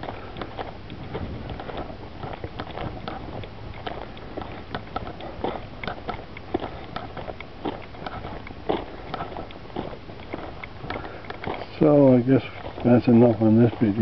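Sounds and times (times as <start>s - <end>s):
footsteps on dirt trail: 0.0s - 14.0s.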